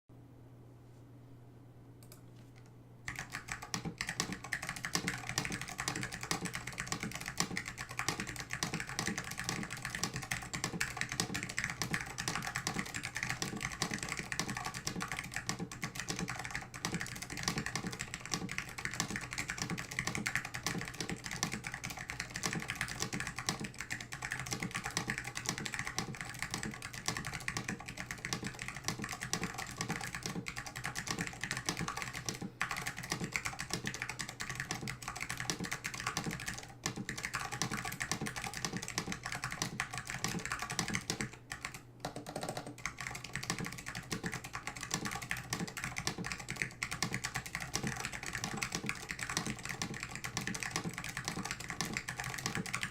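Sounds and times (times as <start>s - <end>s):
faint low hum: 0.1s - 52.9s
fast typing on mechanical keyboard: 3.1s - 52.9s.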